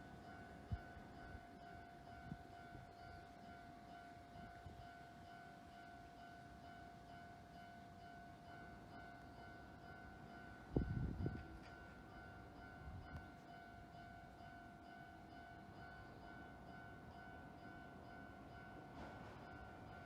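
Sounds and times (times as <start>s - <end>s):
level-crossing warning bell: 0.0s - 20.0s.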